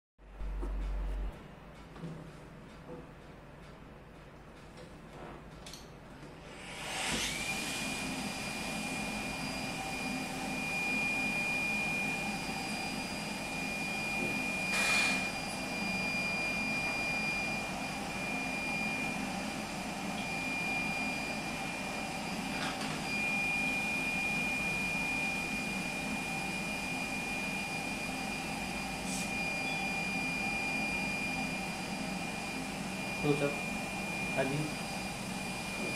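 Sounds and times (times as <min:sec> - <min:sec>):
suction unit motor whining: 0:06.5 - 0:35.9.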